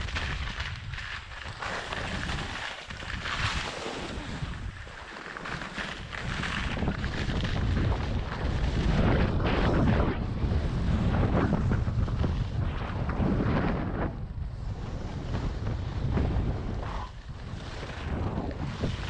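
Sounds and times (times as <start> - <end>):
wind buffeting microphone: 0.0 - 4.9, 5.5 - 19.0
skis scraping over snow: 0.0 - 19.0.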